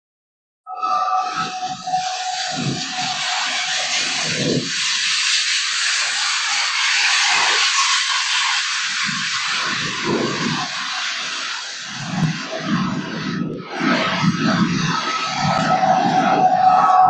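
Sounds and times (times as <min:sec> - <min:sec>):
loud steady hiss: 0:00.9 - 0:17.0.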